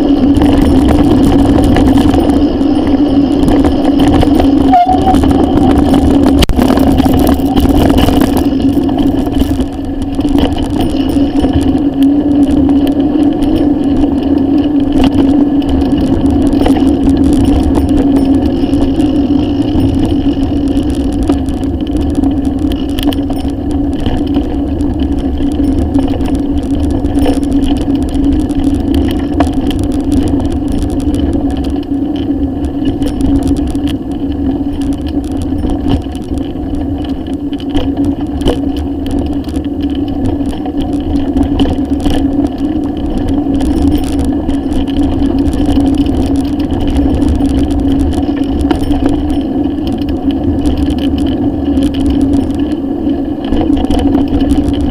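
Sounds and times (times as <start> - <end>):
bicycle tyres rumbling on asphalt: 0.0 - 54.9
bike rattles and clicks: 0.0 - 54.9.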